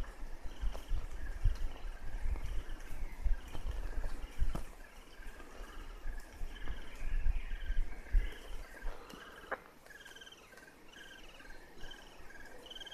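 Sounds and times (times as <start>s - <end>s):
young birds chirping: 0.4s - 12.9s.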